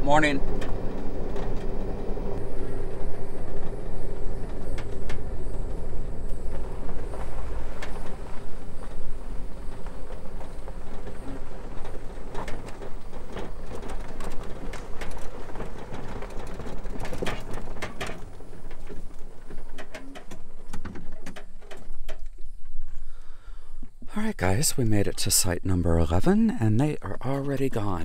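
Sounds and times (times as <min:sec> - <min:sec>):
cart rattling and clicking: 0:00.0 - 0:23.0
tyres rumbling on gravel: 0:00.0 - 0:28.0.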